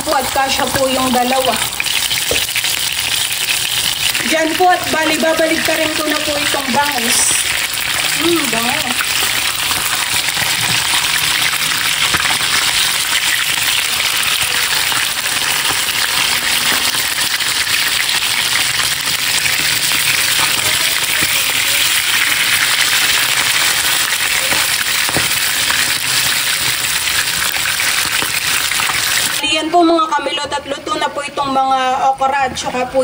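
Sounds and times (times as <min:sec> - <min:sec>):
fish frying in oil: 0:00.0 - 0:29.5.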